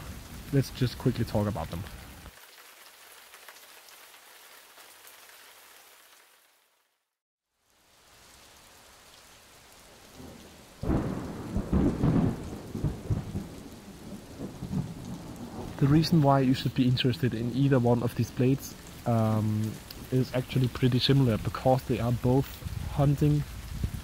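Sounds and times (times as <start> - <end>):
light rain hiss: 0.0 - 24.0.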